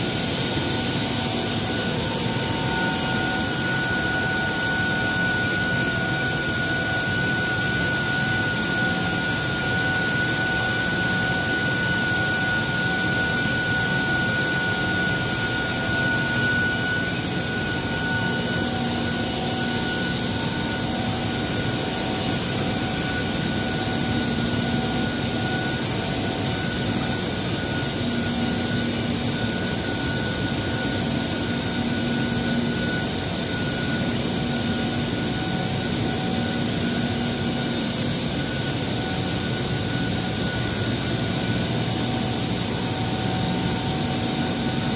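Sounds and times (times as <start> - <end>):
continuous rushing hiss: 0.0 - 44.9
high-pitched whines: 0.0 - 44.9.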